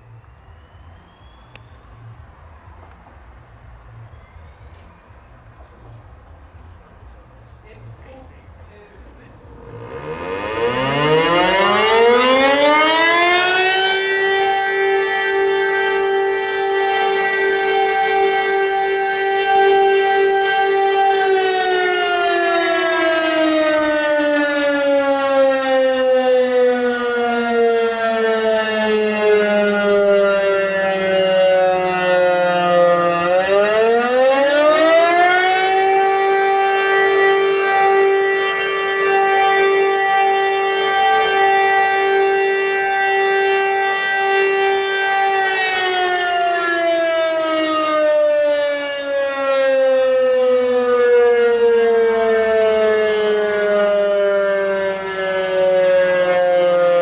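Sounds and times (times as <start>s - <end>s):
two-note alarm siren wail: 0.0s - 2.3s, 9.4s - 57.0s.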